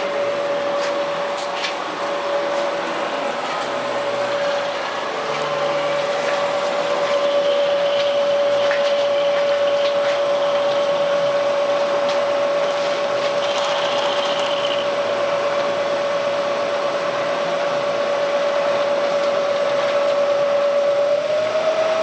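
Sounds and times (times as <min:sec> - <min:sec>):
milling machine whine: 0:00.0 - 0:22.0.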